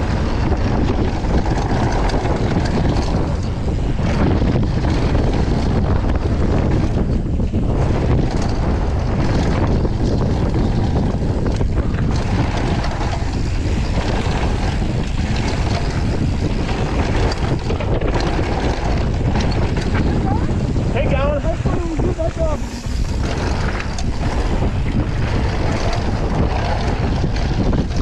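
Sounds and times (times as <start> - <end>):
bike knocks and rattles: 0.0 - 28.0
tyres rumbling over dirt: 0.0 - 28.0
wind buffeting microphone: 0.0 - 28.0.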